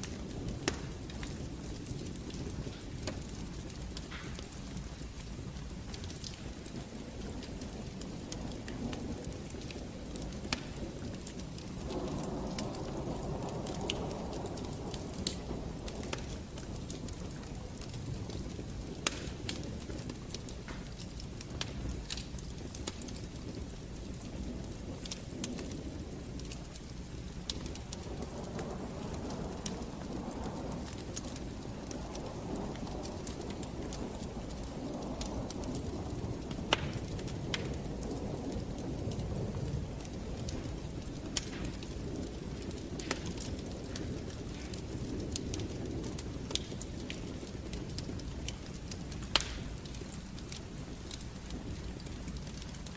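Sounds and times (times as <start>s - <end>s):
flames rushing: 0.0s - 52.9s
wood fire crackling and popping: 0.0s - 52.9s.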